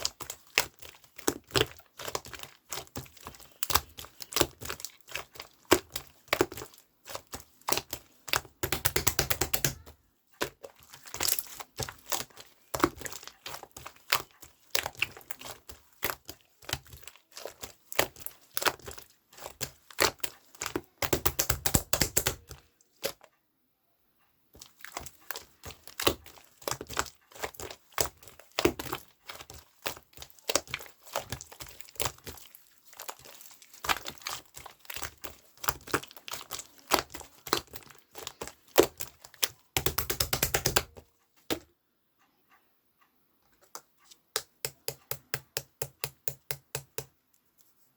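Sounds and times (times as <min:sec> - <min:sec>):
crinkling and crackling: 0:00.0 - 0:23.4, 0:24.5 - 0:41.7.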